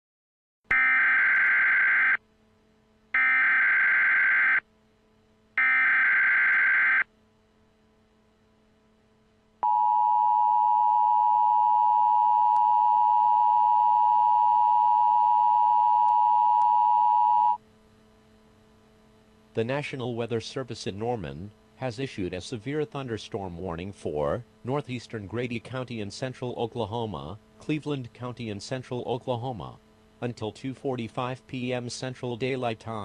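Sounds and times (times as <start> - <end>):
long steady attention tone: 0.7 - 33.0.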